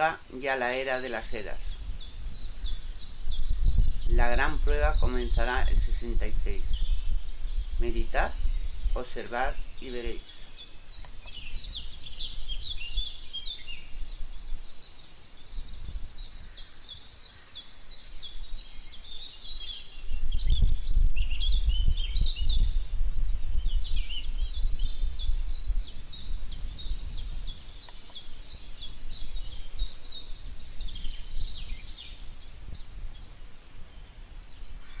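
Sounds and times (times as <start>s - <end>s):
birds chirping and trilling: 0.0s - 35.0s.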